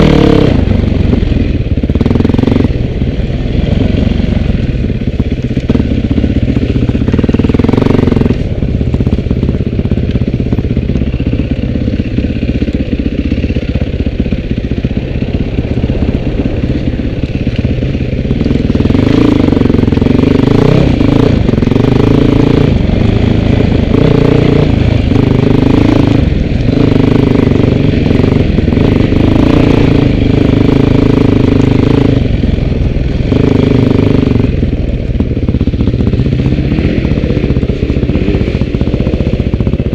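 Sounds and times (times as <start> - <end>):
off-road vehicle engine revving: 0.0 - 2.8, 5.6 - 9.2, 14.4 - 39.9.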